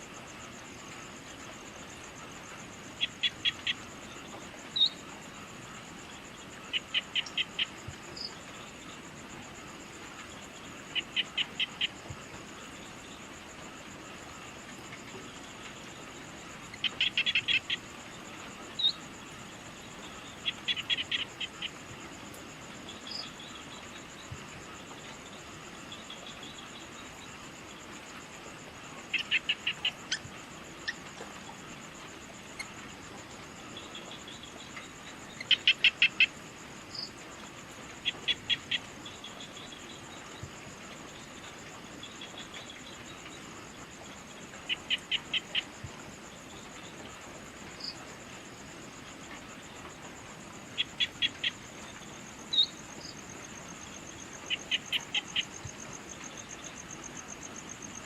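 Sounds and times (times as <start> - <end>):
insect trill: 0.0 - 58.0.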